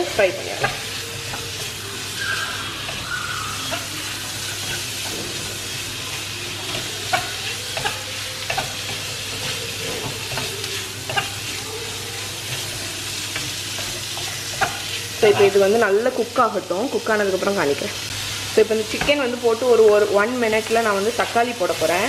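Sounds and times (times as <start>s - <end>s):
chicken sizzling in a wok: 0.0s - 22.0s.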